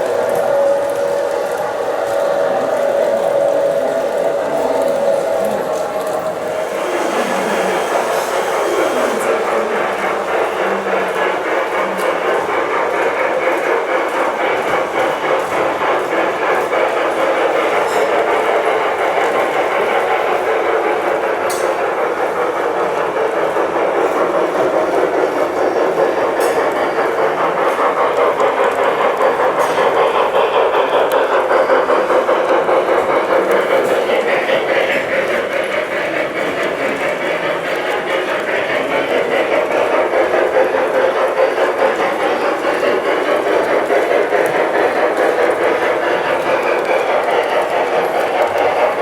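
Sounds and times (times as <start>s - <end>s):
model train rolling on track: 0.0s - 49.0s.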